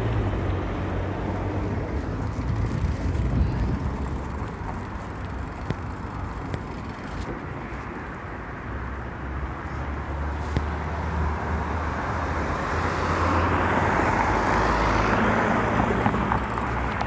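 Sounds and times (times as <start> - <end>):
bicycle riding on road: 0.0 - 8.9, 11.7 - 17.0.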